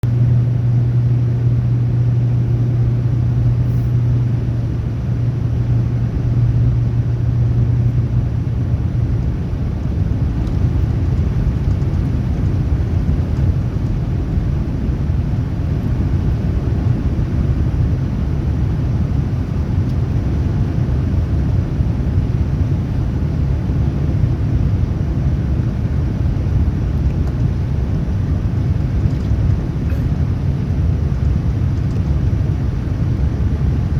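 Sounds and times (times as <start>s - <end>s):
airliner cabin rumble: 0.0s - 33.9s
low steady hum: 0.0s - 33.9s.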